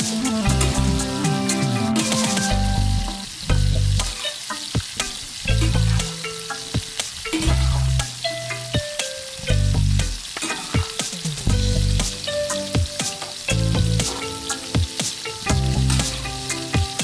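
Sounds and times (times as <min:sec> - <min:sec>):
background music with bass notes: 0:00.0 - 0:17.0
food sizzling in a frying pan: 0:00.0 - 0:17.0.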